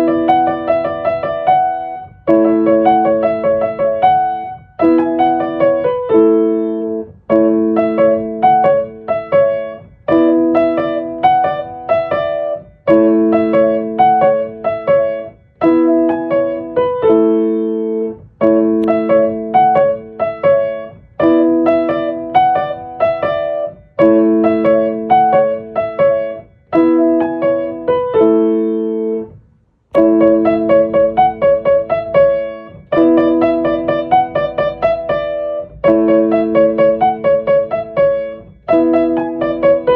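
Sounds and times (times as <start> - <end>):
solo piano music: 0.0 - 39.9.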